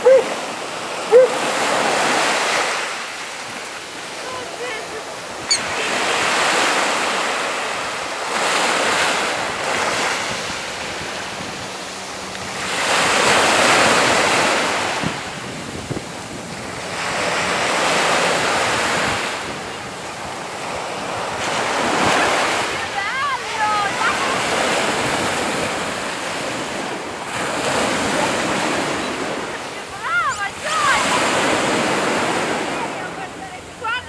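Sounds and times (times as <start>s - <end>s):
sea surf washing ashore: 0.0s - 34.0s.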